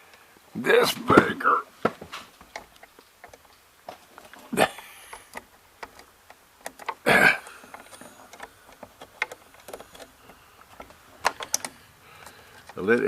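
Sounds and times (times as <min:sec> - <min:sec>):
test probes clicking and tapping: 0:01.8 - 0:13.0.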